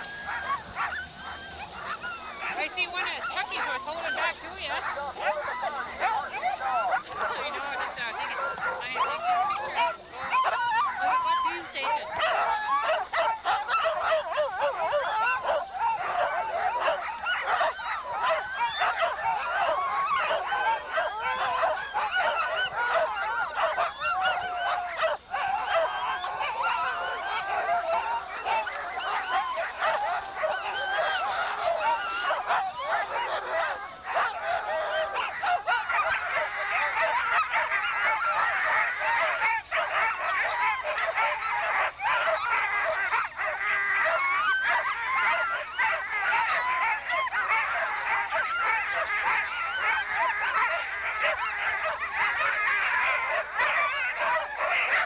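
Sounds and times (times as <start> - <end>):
dogs yelping and barking: 0.0 - 55.0.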